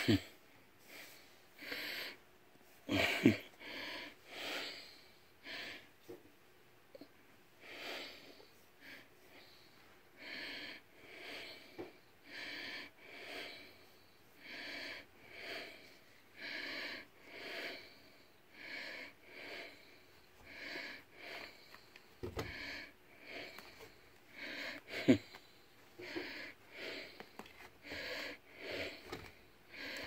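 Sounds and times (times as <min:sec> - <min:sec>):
nasal breathing: 0:00.0 - 0:06.2, 0:07.0 - 0:30.0.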